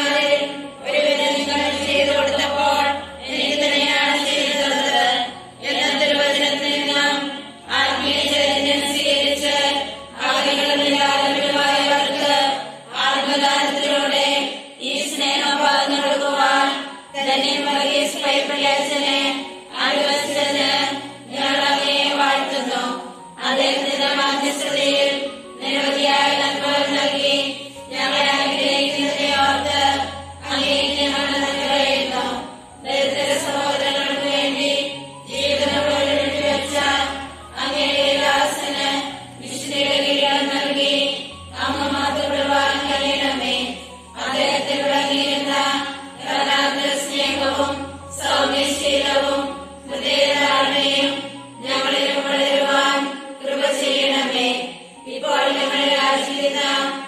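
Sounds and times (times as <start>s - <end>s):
women chanting a prayer in unison: 0.0s - 57.0s.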